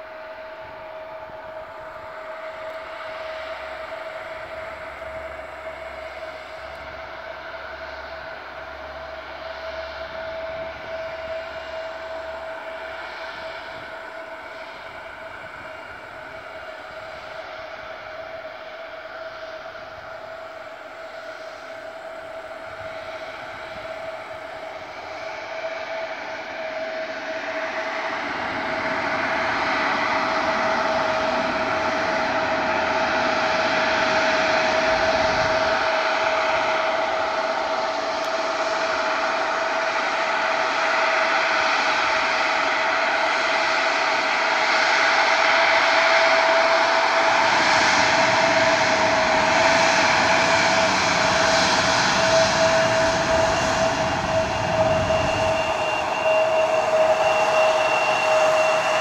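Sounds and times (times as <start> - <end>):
jet engines whining at taxi: 0.0 - 59.0.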